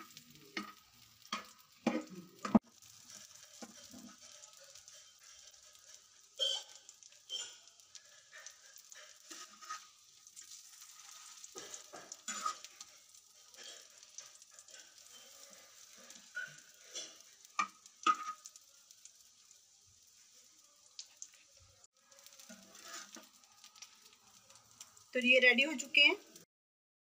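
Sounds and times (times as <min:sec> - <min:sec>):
metal spatula scraping a pan: 0:00.0 - 0:19.5, 0:22.1 - 0:25.0
meat sizzling on a griddle: 0:00.0 - 0:26.4.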